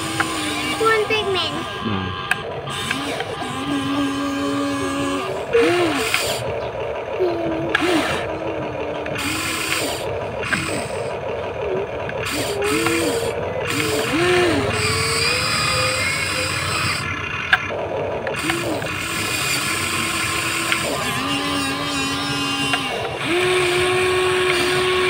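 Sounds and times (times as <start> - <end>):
toy electric motors whirring: 0.0 - 25.0.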